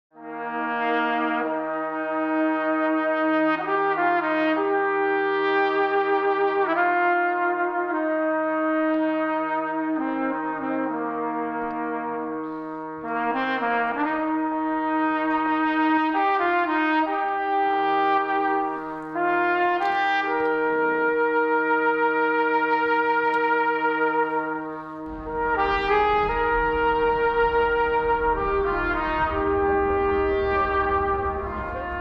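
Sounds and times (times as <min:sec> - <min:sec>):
brass ensemble playing slow chords: 0:00.2 - 0:32.0.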